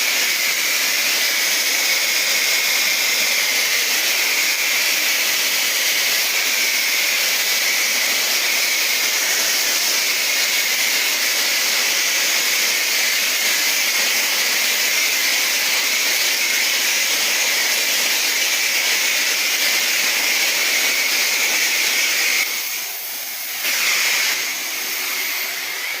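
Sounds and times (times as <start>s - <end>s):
pressure washer spraying water: 0.0s - 26.0s.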